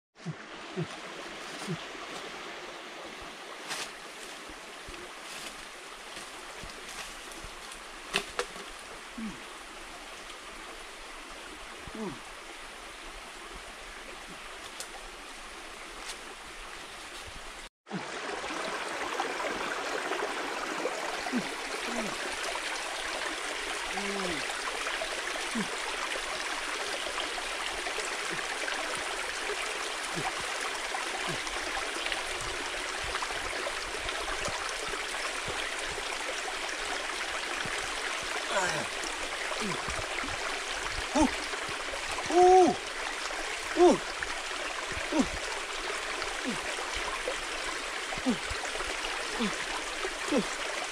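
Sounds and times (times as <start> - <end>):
stream running over rocks: 0.2 - 50.9.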